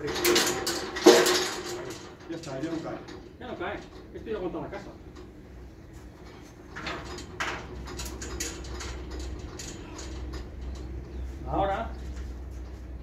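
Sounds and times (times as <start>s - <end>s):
knocks and scrapes on metal scaffold: 0.0s - 13.0s
steady low hum: 0.0s - 13.0s.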